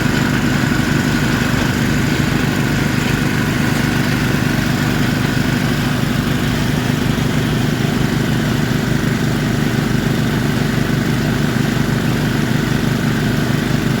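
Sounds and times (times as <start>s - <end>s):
drilling machine engine running: 0.0s - 14.0s.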